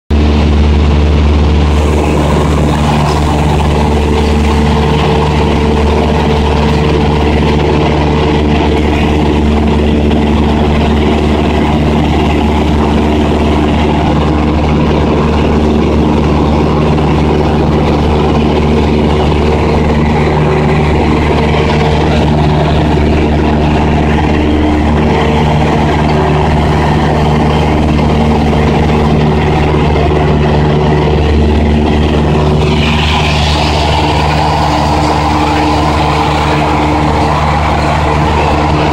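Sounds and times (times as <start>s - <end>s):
airplane engine droning in cabin: 0.1s - 38.9s
rushing air noise: 0.1s - 38.9s.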